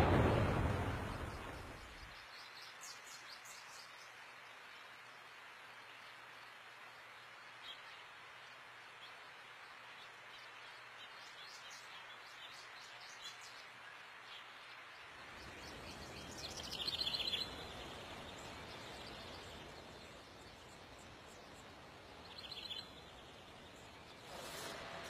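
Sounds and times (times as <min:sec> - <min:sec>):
birds chirping: 0:00.0 - 0:25.0
steady hiss: 0:00.0 - 0:25.0.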